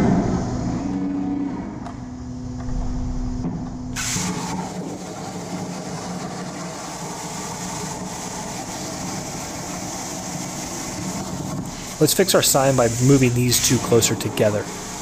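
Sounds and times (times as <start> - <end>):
machine hum: 0.0 - 15.0
plasma torch hissing: 2.7 - 15.0.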